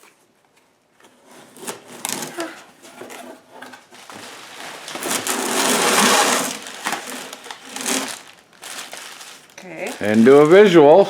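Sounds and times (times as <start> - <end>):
cardboard and packing rustling: 1.3 - 11.0.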